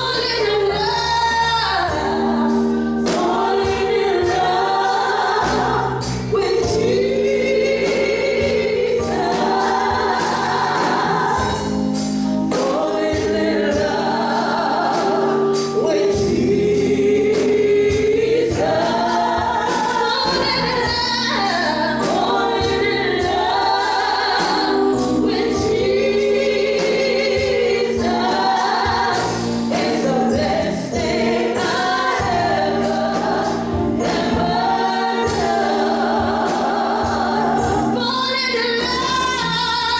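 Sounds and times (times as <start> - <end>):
choir singing a gospel hymn: 0.0 - 39.9
instrumental accompaniment: 0.0 - 39.9.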